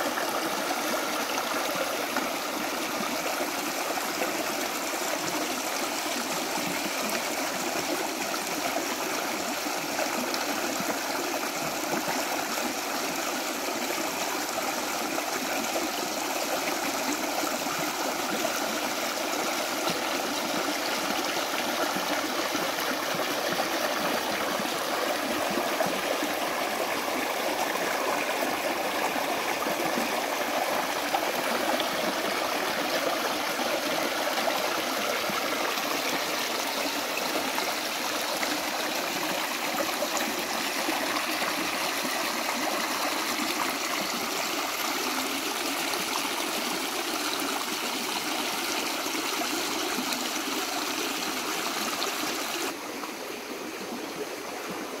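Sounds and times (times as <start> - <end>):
stream rushing over stones: 0.0 - 55.0.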